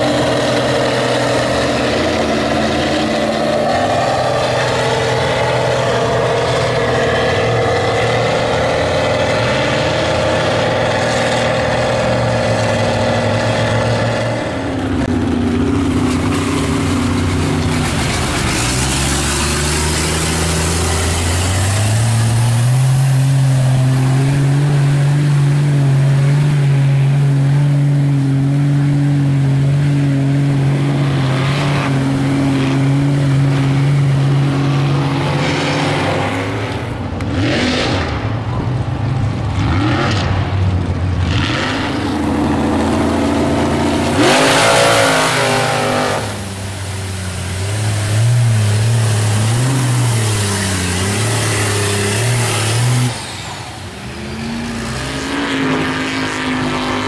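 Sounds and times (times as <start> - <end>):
loud rush of noise: 0.0 - 57.0
truck engines revving: 0.0 - 57.0.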